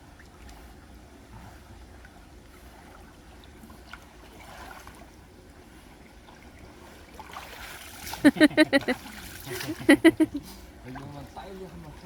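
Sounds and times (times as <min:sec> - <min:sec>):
stream water flowing: 0:02.0 - 0:12.0.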